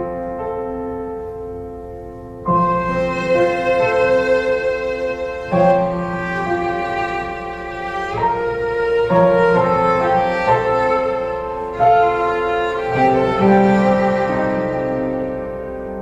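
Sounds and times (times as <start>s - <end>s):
slow bowed string melody: 2.4s - 16.0s.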